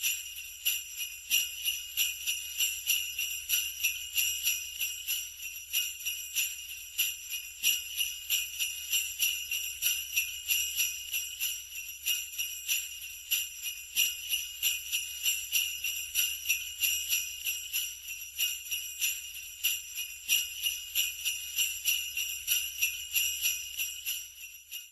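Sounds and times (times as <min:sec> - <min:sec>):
sleigh bells jingling: 0:00.0 - 0:24.9.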